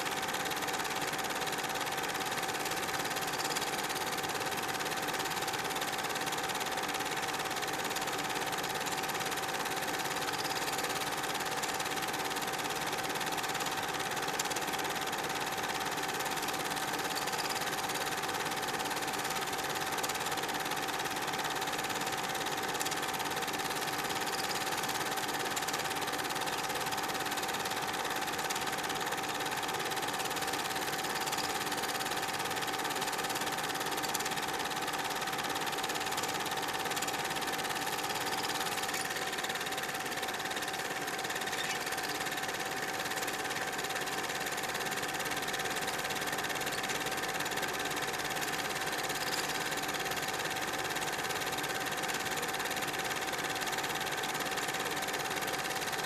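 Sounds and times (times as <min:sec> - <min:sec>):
film projector whirring and clattering: 0:00.0 - 0:56.0.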